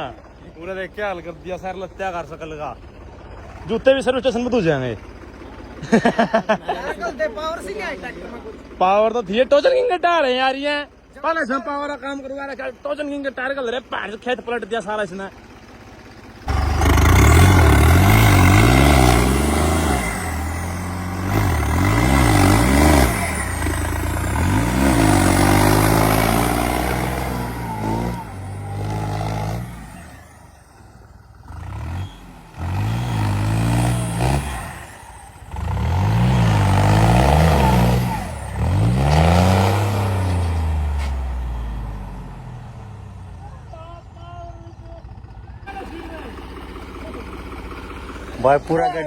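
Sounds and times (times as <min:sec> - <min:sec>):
tractor diesel engine revving: 0:00.0 - 0:49.0.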